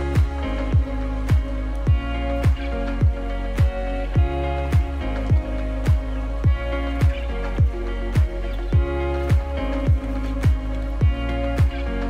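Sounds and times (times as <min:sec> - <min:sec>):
held synth chords: 0:00.0 - 0:12.0
kick drum: 0:00.2 - 0:11.8.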